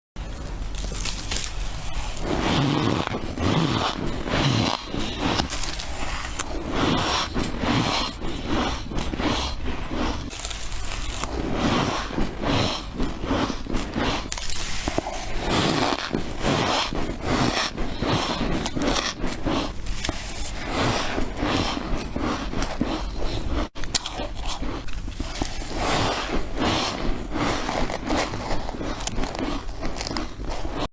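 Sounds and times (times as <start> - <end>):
person chewing crunchy frost: 0.2 - 30.9.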